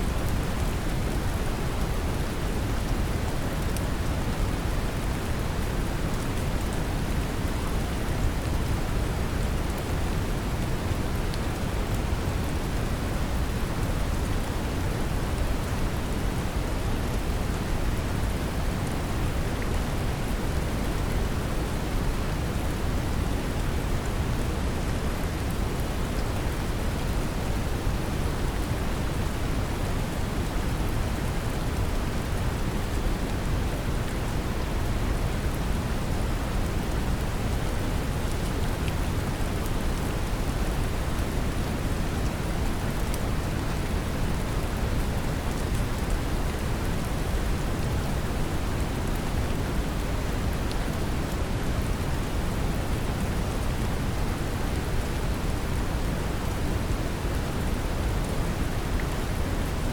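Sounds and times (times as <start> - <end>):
gentle rain falling: 0.0 - 59.9.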